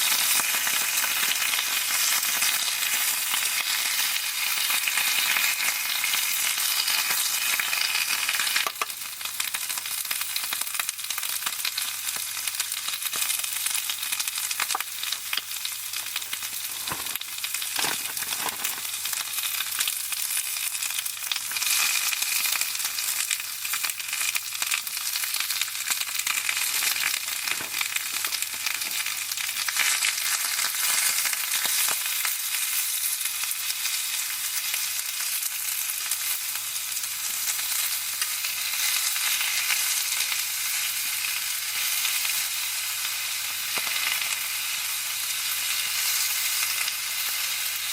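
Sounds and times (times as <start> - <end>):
food sizzling: 0.0 - 47.9.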